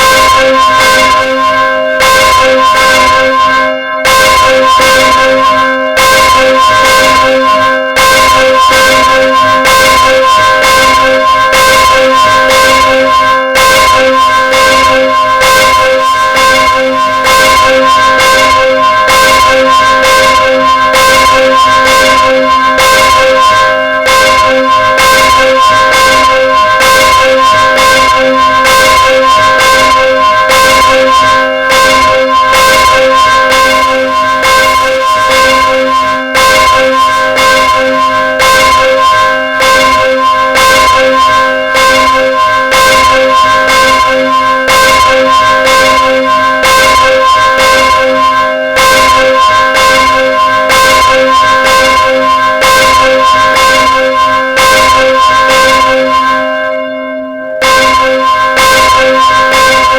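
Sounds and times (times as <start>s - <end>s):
church bell ringing: 0.0s - 59.9s.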